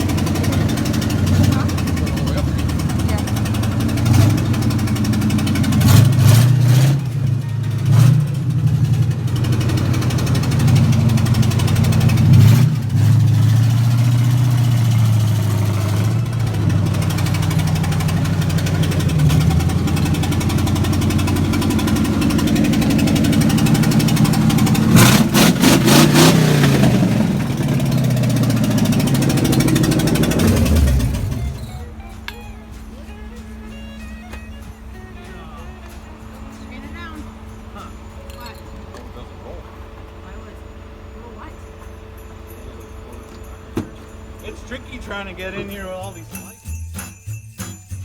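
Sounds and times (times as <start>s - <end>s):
vehicle engine idling and revving: 0.0s - 48.0s.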